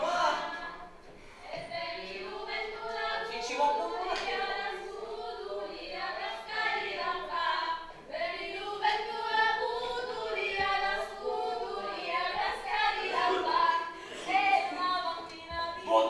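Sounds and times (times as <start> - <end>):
young voices singing together: 0.0 - 16.0.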